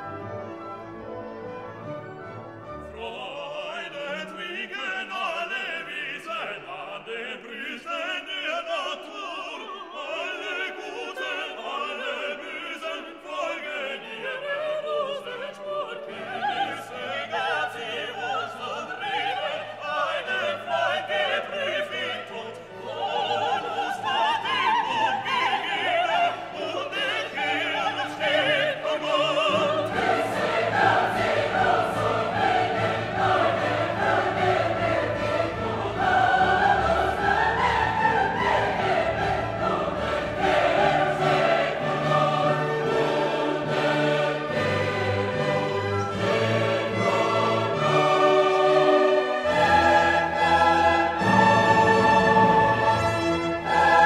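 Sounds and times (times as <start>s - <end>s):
operatic singing with orchestra: 0.0s - 54.0s.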